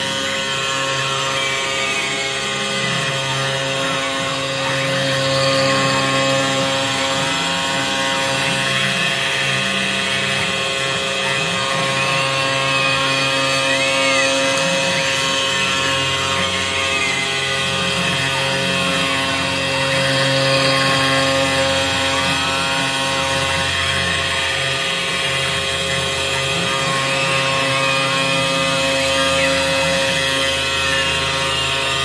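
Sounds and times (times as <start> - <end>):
machine whine: 0.0 - 32.0
stepper motor tones gliding: 0.0 - 32.0.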